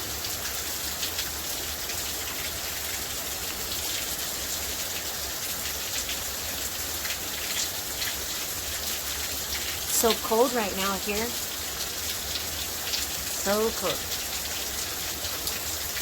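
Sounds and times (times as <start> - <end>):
drops and drips ticking: 0.0 - 16.0
heavy rain pouring: 0.0 - 16.0.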